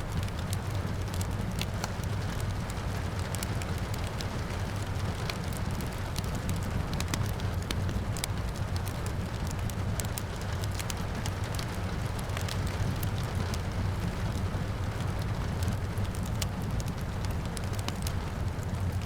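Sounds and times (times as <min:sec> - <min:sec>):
rain falling: 0:00.0 - 0:19.0
wood fire crackling: 0:00.0 - 0:19.0.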